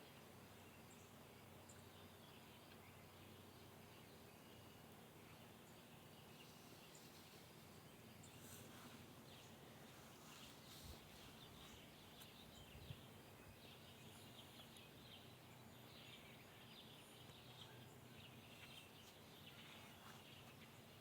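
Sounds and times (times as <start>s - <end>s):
distant birds chirping: 0.0s - 21.0s.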